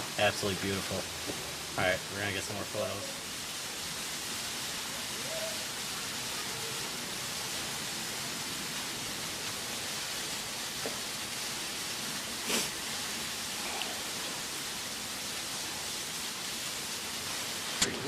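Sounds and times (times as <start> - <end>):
spray raining down: 0.0 - 18.0
waterfall rushing: 0.0 - 18.0.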